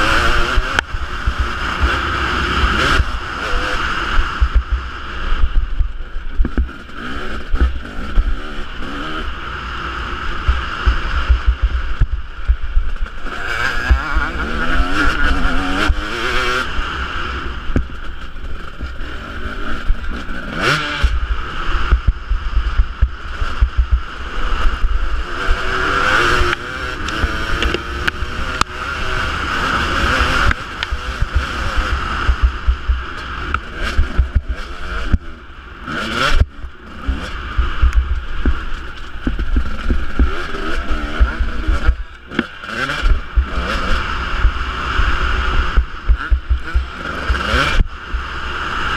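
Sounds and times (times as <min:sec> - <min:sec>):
motocross engine revving: 0:00.0 - 0:48.9.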